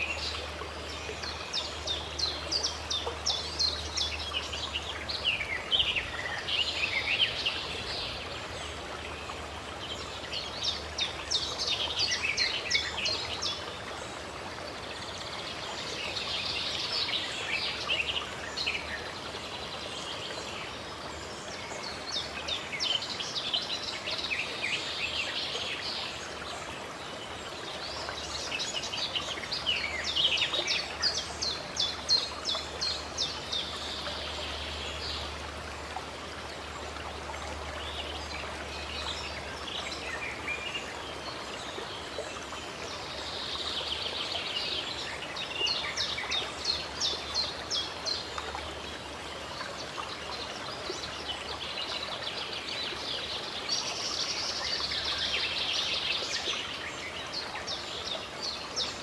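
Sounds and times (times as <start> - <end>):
running water: 0.0 - 59.0
songbirds chirping: 0.0 - 59.0.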